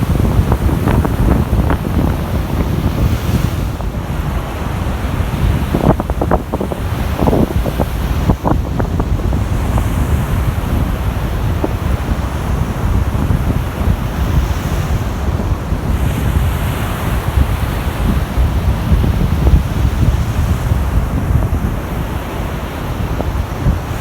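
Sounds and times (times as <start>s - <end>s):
surf washing ashore: 0.0s - 24.0s
wind buffeting microphone: 0.0s - 24.0s.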